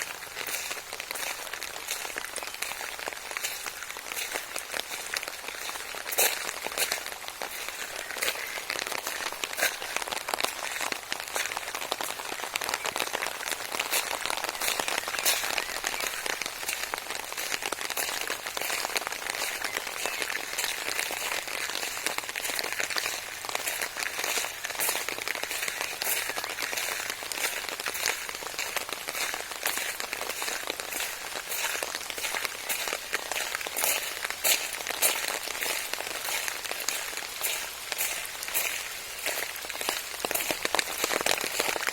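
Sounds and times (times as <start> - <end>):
raindrops clicking on surface: 0.0 - 41.9
steady rainfall: 0.0 - 41.9.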